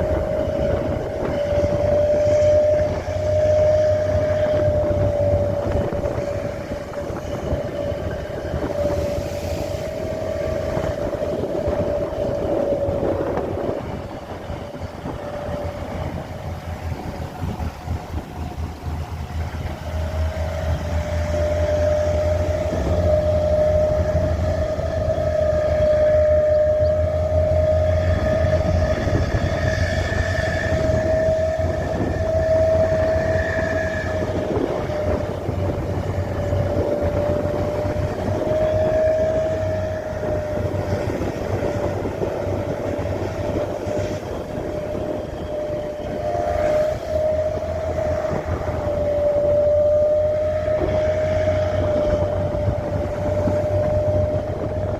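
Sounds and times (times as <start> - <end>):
high-pitched whine: 0.0 - 54.9
truck engine rumble: 0.0 - 54.9.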